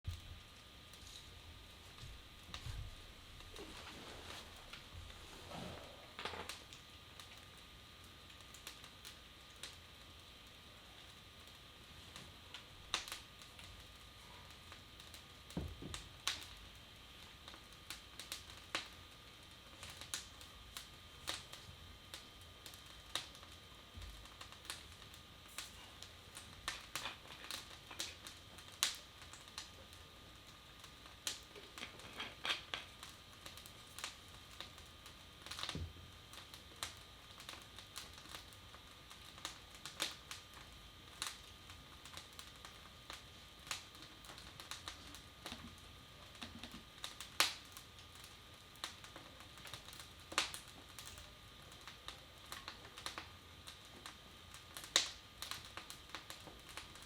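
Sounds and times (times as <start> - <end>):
wood fire crackling: 0.0 - 57.0
faint high hum: 0.1 - 57.0.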